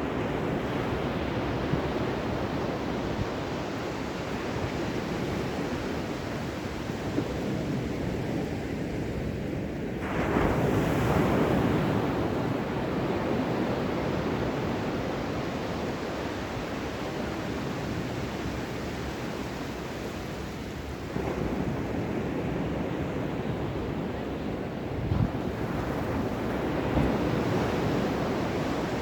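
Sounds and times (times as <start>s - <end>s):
rush of surf: 0.0s - 29.0s.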